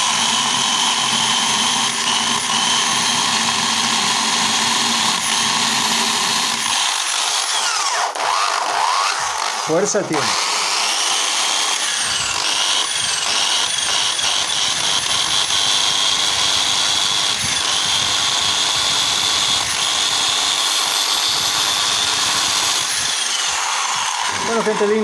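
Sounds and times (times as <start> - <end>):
electric drill whining: 0.0 - 25.0.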